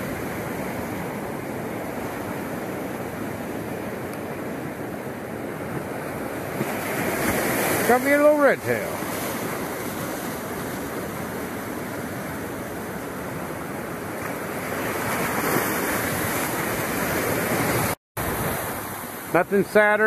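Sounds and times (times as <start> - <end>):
surf breaking over rocks: 0.0 - 20.0.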